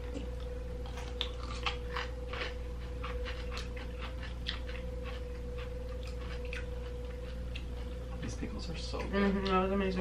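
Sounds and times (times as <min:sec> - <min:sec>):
person chewing crunchy pickle: 0:00.0 - 0:09.6.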